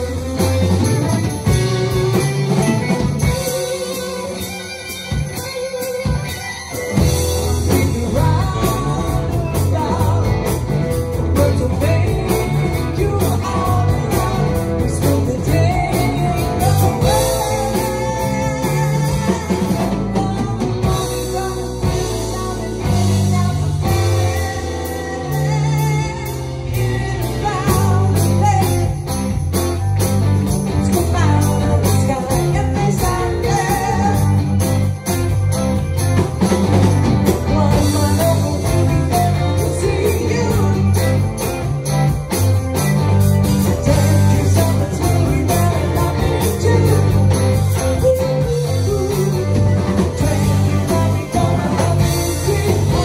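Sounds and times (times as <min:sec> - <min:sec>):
woman singing lead: 0:00.0 - 0:29.4, 0:30.6 - 0:35.8, 0:36.4 - 0:42.2, 0:43.5 - 0:53.0
live rock band playing: 0:00.0 - 0:53.0.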